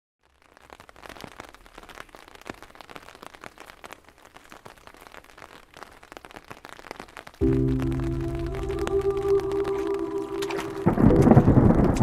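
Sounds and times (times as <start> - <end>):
raindrops pattering: 0.2 - 12.0.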